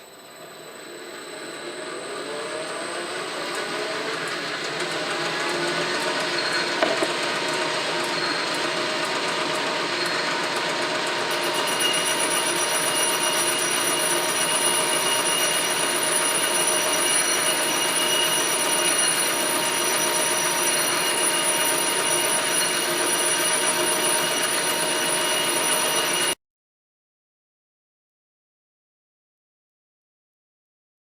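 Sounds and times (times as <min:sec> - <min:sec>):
high whining tones: 0:00.0 - 0:26.4
metal lathe cutting: 0:00.0 - 0:26.4.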